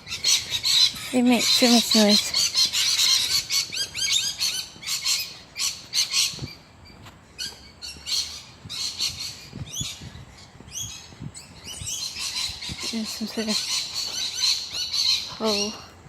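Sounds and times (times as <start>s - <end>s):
birds squawking: 0.0s - 16.0s.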